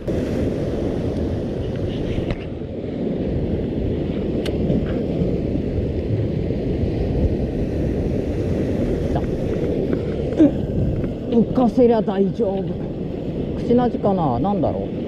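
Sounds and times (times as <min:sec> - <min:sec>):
water: 0:00.0 - 0:15.0
wind on microphone: 0:00.0 - 0:15.0.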